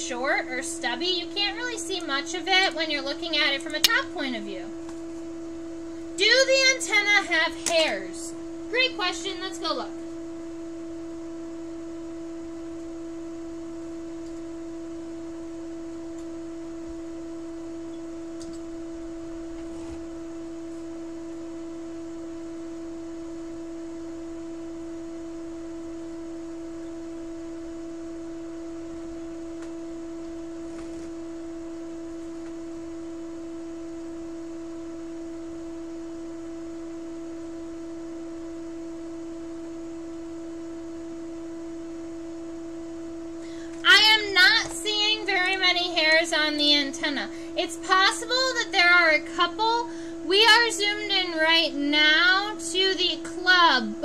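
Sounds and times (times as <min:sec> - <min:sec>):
steady pure tone: 0:00.0 - 0:54.0.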